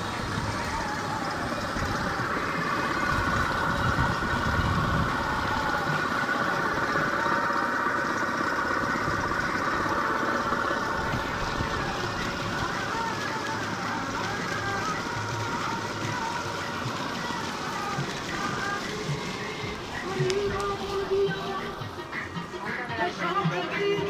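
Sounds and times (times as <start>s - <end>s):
electric motor driving water pump: 0.0s - 24.0s.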